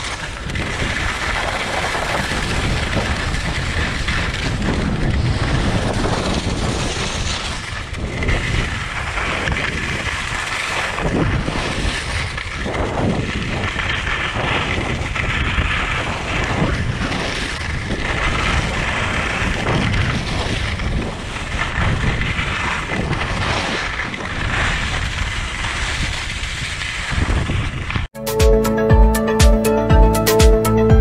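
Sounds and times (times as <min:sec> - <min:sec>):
skis scraping over snow: 0:00.0 - 0:28.1
wind rushing over microphone: 0:00.0 - 0:28.1.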